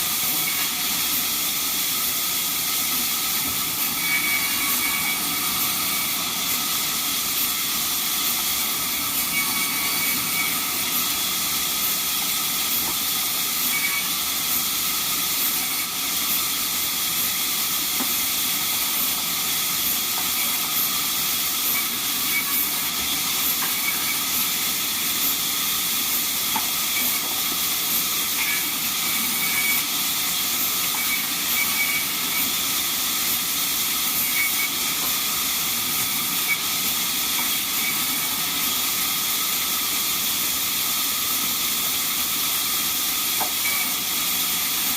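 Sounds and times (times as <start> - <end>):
band saw hissing: 0.0 - 44.9.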